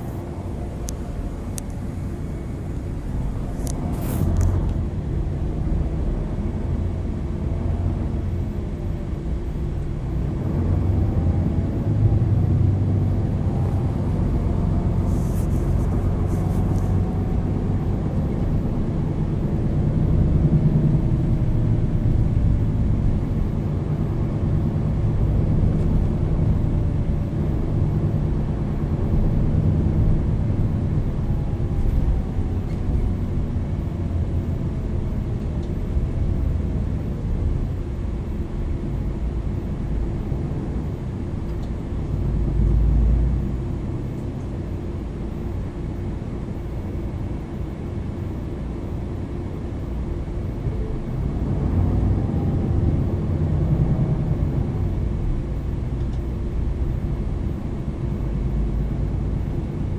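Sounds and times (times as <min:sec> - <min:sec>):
bus engine rumble: 0:00.0 - 0:59.9
drivetrain whine: 0:00.0 - 0:59.9.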